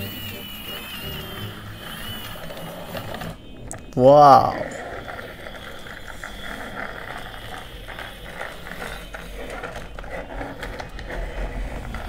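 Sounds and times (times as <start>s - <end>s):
faint steady whir: 0.0s - 12.0s
toy car gear ratcheting: 0.0s - 12.0s.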